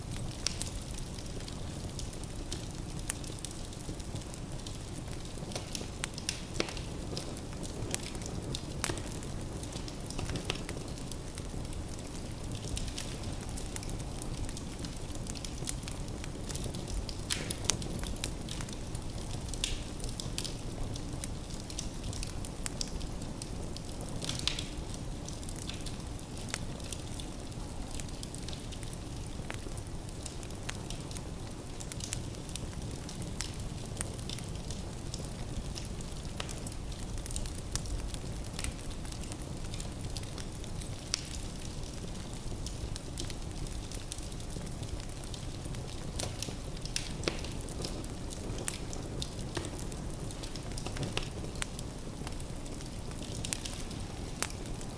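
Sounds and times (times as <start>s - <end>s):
wood fire rumbling and crackling: 0.0s - 54.9s.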